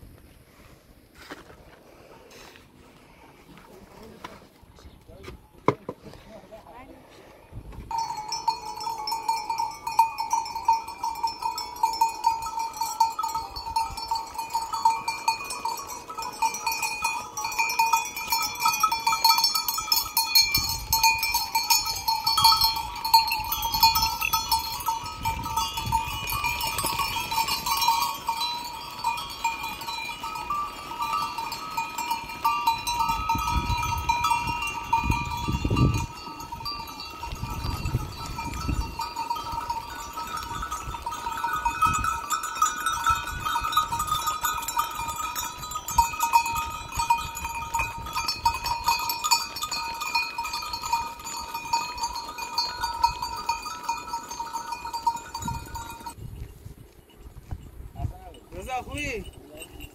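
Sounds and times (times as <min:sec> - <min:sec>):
livestock bells jingling: 0:07.9 - 0:59.9.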